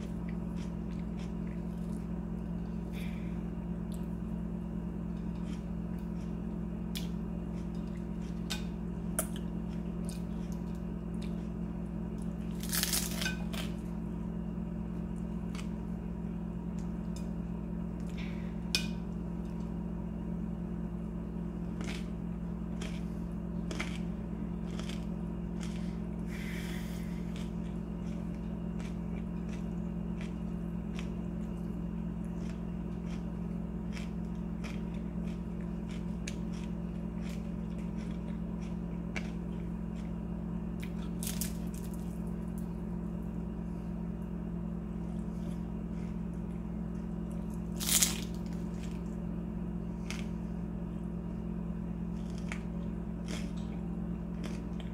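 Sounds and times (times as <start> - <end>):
biting and chewing crisp food: 0.0 - 54.9
steady low hum: 0.0 - 54.9.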